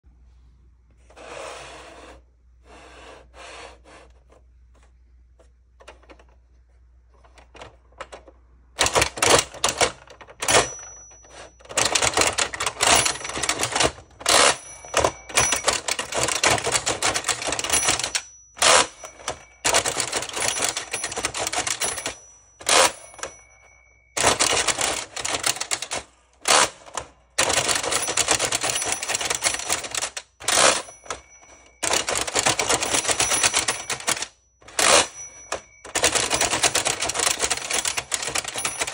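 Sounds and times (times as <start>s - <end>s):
toy typewriter keystrokes clattering: 7.2s - 38.9s.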